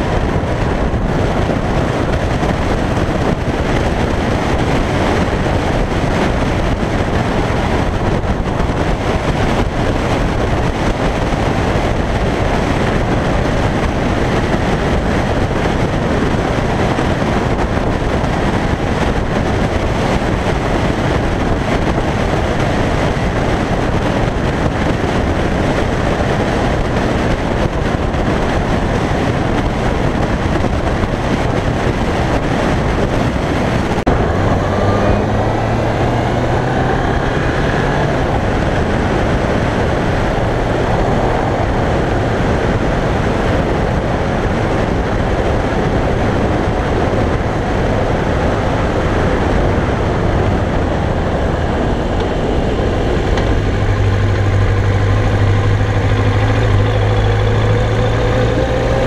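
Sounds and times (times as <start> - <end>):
motorcycle engine running: 0.0 - 59.0
wind rush and road noise: 0.0 - 59.0.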